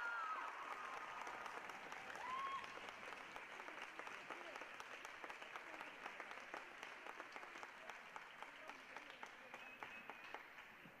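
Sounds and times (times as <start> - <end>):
faint audience applause: 0.0 - 11.0.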